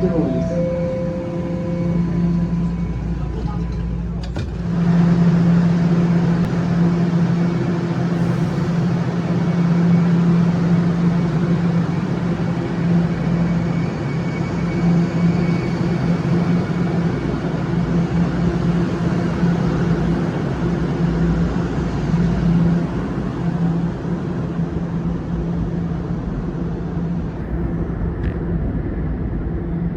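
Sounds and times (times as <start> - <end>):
subway train hum: 0.0 - 29.9
subway train rumble: 0.0 - 29.9.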